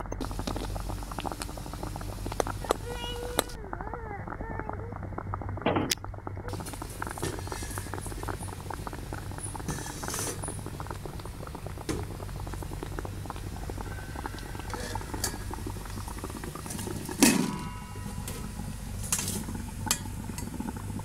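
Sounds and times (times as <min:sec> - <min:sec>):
water boiling hard: 0:00.0 - 0:21.0.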